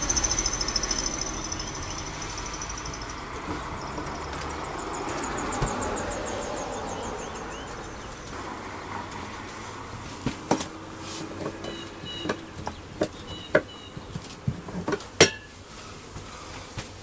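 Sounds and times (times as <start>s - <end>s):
honeybees buzzing: 0.0s - 14.5s.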